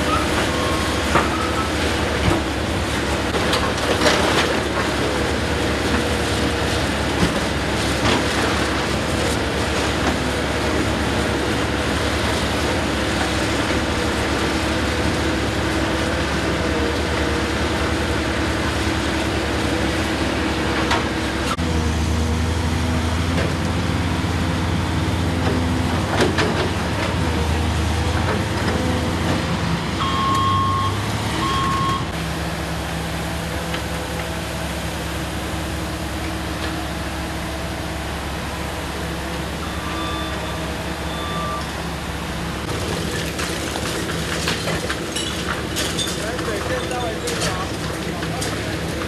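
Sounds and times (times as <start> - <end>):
excavator engine and hydraulics: 0.0 - 49.0.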